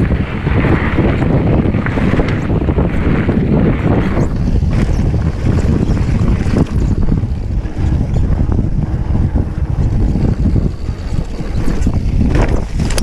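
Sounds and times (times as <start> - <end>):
bike knocks and rattles: 0.0 - 13.0
bike tyre rumble: 0.0 - 13.0
wind buffeting microphone: 0.0 - 13.0.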